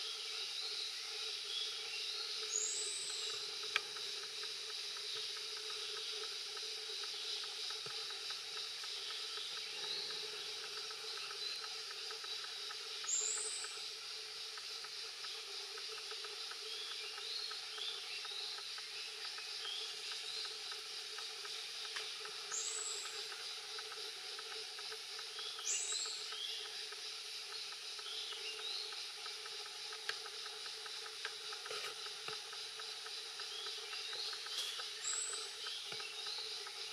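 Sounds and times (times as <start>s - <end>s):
forest background hiss: 0.0s - 36.9s.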